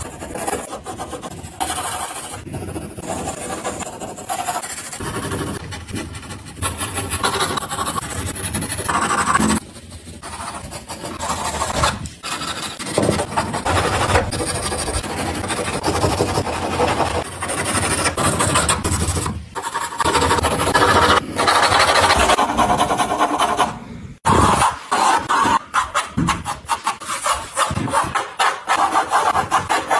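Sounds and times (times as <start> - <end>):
pencil scratching on paper: 0.0 - 29.9.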